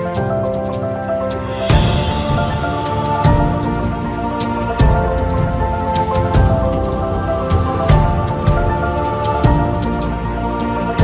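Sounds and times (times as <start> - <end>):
background music with percussive hits: 0.0 - 11.0.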